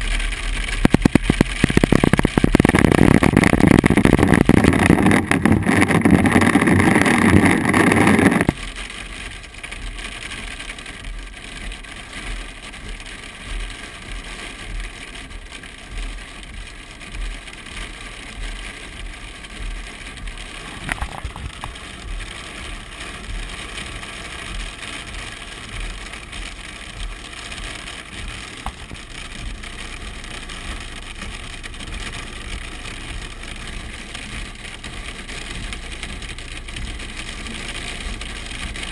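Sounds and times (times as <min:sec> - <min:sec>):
cabin and road noise hiss: 0:00.0 - 0:38.9
hail drumming on car roof: 0:00.0 - 0:38.9.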